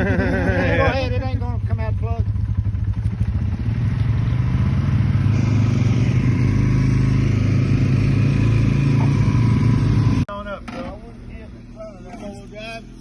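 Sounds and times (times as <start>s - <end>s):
atv engines running under load: 0.0s - 13.0s.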